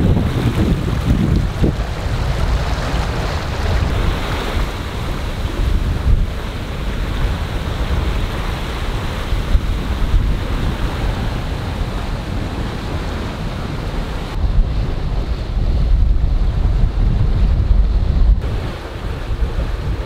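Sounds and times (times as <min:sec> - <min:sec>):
water rushing along hull: 0:00.0 - 0:20.0
wind buffeting microphone: 0:00.0 - 0:20.0.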